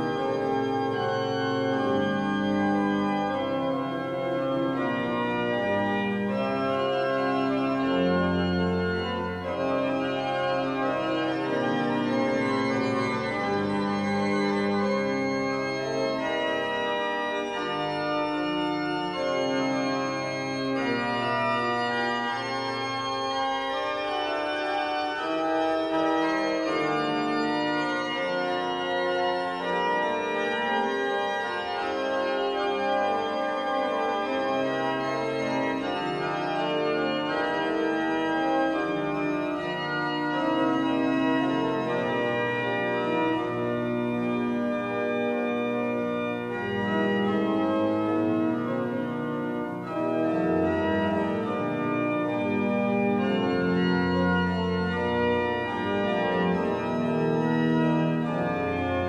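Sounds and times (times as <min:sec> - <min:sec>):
pipe organ playing a hymn: 0:00.0 - 0:59.0.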